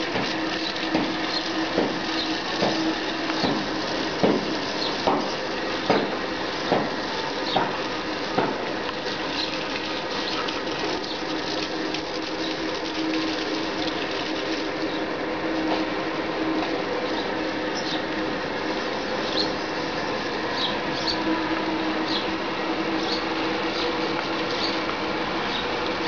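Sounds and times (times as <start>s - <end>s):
garden hose water splashing: 0.0s - 26.0s.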